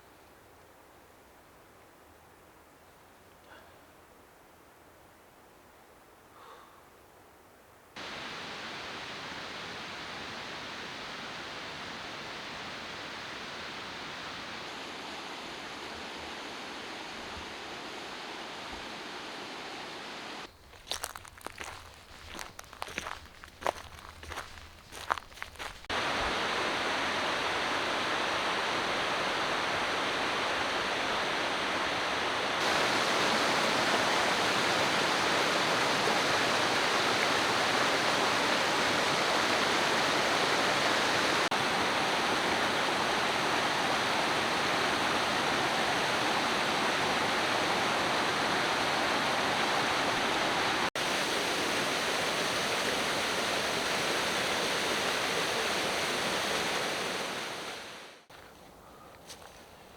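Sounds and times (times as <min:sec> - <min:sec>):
rushing mountain water: 0:08.0 - 0:58.3.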